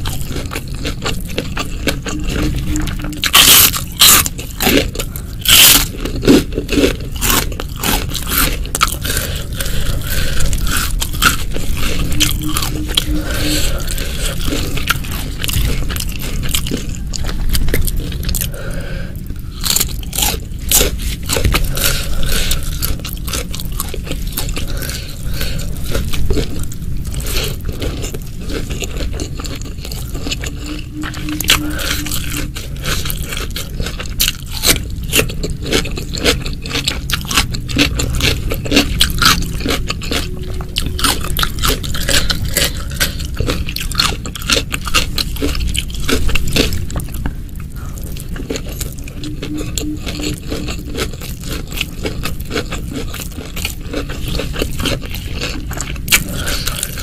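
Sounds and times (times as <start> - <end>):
chewing crisp food: 0.0 - 57.0.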